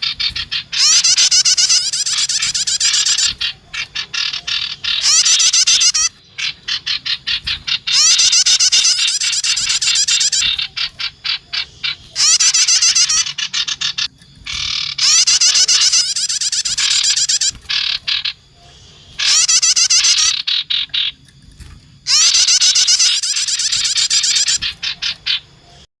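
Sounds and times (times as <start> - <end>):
buzzy bird chattering: 0.0 - 21.2, 22.0 - 25.9
sharp bird ticking calls: 0.0 - 21.4, 22.0 - 25.9.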